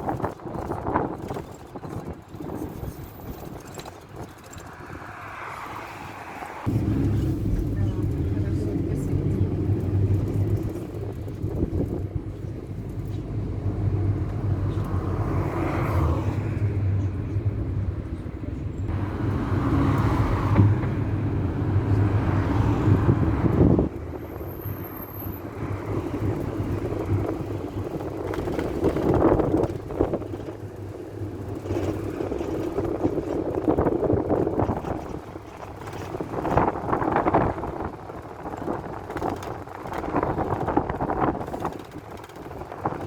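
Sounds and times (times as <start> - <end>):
road rumble: 0.0 - 43.0
engine droning: 4.7 - 43.0.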